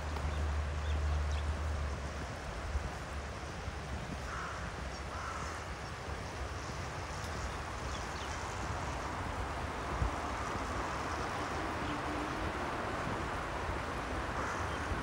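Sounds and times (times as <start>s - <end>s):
flowing water rush: 0.0s - 15.0s.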